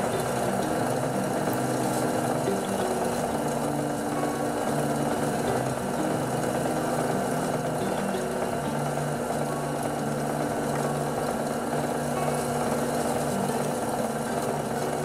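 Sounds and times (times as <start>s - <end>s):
drill bit cutting workpiece: 0.0s - 15.0s
drill press motor humming: 0.0s - 15.0s.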